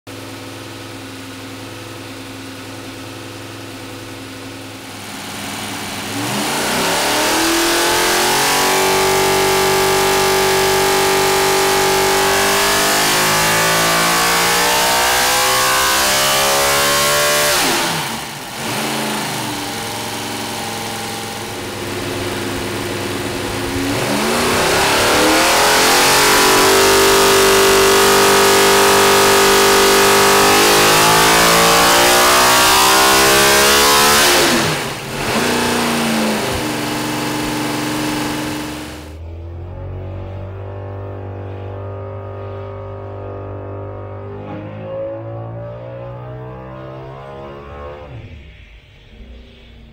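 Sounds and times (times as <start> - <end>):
racing engine revving: 5.0 - 49.9.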